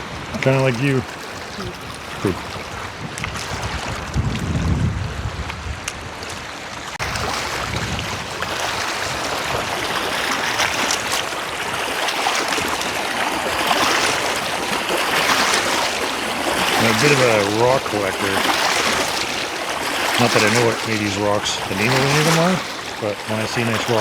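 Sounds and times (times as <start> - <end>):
water washing against rocky shore: 0.0 - 24.0
wind buffeting microphone: 0.0 - 24.0.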